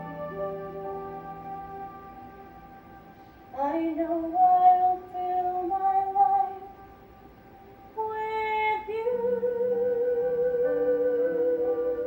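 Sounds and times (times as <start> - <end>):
slow soft stage musical music: 0.0 - 12.0.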